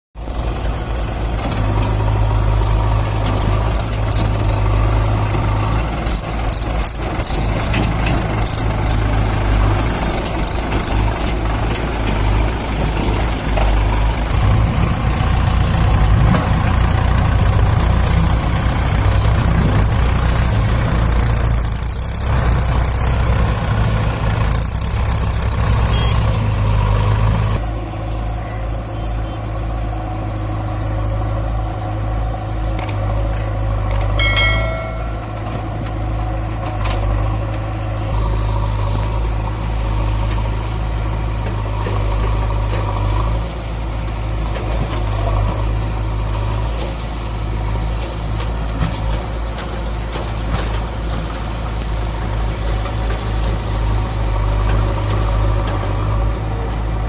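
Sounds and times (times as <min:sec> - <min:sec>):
diesel engines running: 0:00.2 - 0:57.0.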